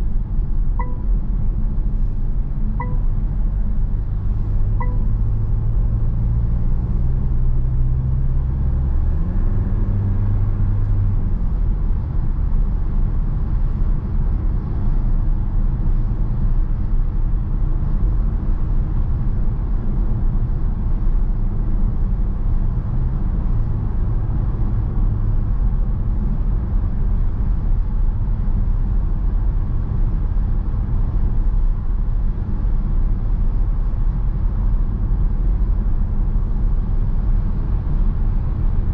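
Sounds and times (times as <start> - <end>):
diesel engine running: 0.0 - 38.9
road rumble: 0.0 - 38.9.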